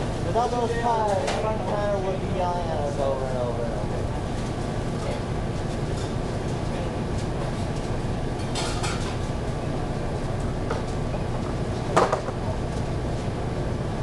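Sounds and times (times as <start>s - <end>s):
kitchen machinery roar: 0.0s - 14.0s.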